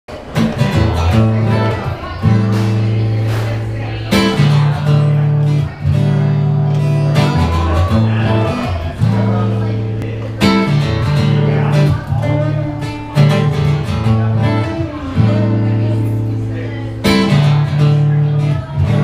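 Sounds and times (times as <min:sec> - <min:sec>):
acoustic guitar strumming chords: 0:00.1 - 0:19.0.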